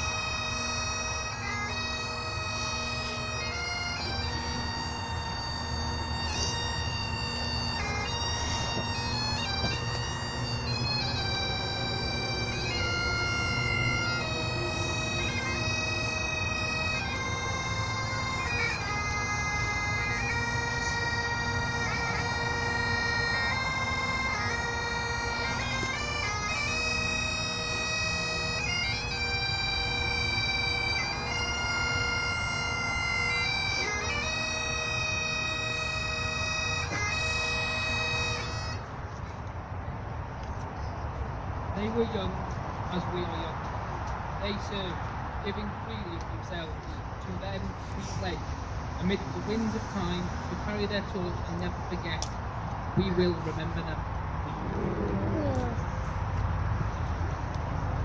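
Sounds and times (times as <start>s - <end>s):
bagpipes playing slow melody: 0.0s - 39.5s, 44.0s - 52.3s.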